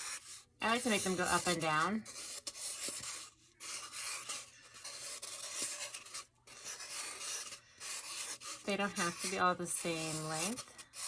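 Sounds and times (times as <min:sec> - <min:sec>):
marker scratching on a tube: 0:00.0 - 0:11.0.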